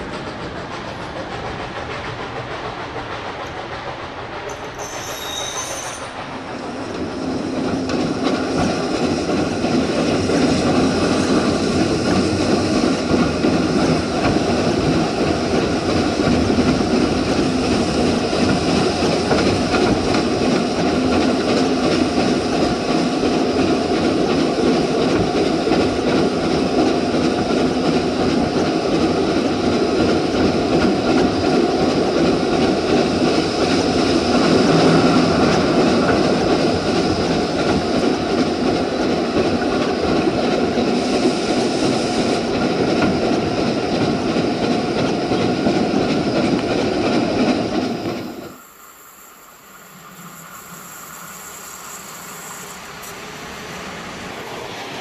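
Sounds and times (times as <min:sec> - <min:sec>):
steam train wheels rumbling: 0:00.0 - 0:55.0.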